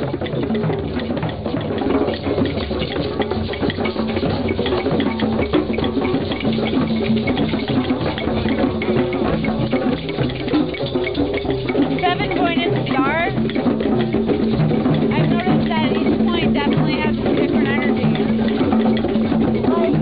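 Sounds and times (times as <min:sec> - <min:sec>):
drums and percussion jam: 0:00.0 - 0:20.0.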